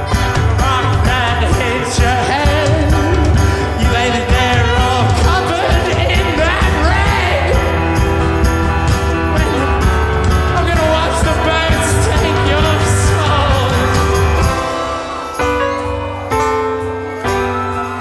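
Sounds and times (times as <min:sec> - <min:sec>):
live rock band playing: 0:00.0 - 0:18.0
person singing: 0:00.0 - 0:18.0
shaken tambourine: 0:00.0 - 0:18.0.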